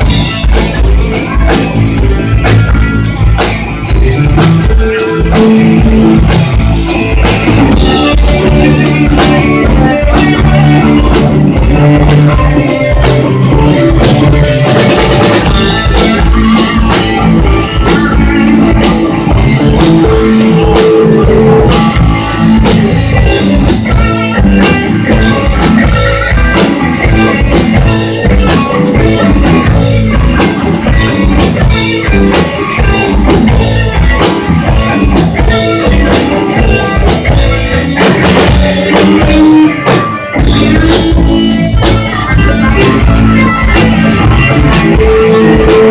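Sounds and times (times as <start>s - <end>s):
drum kit beat: 0.0s - 45.9s
guitar: 0.0s - 45.9s
rock band playing: 0.0s - 45.9s.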